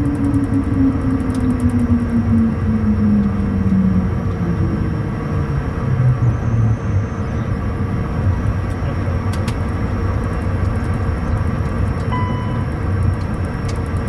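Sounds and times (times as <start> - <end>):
jet engine whine: 0.0 - 14.0
wheels rumbling on runway: 0.0 - 14.0.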